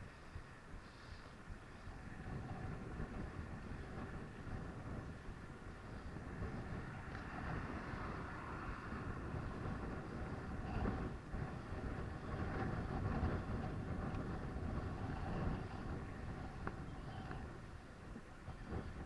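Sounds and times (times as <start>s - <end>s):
traffic noise: 0.0s - 19.0s
wind and road noise: 0.0s - 19.0s.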